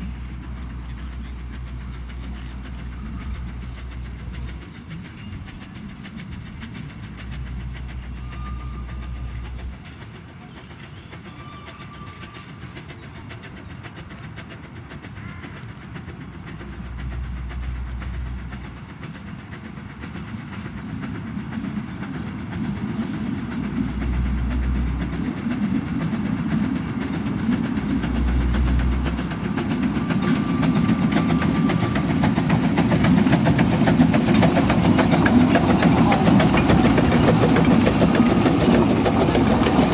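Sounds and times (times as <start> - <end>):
steam locomotive exhaust beats: 0.0 - 39.9
train wheel noise: 0.0 - 39.9.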